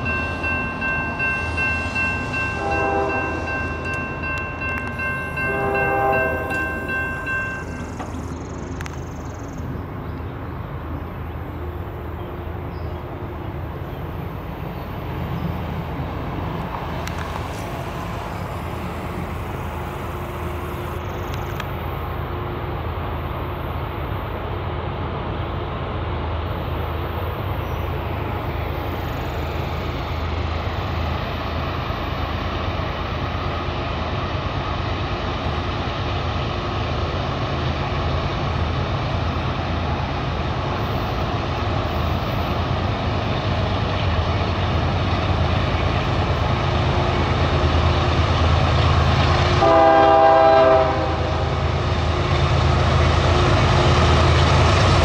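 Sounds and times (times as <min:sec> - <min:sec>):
diesel freight train rumble: 0:00.0 - 0:55.0.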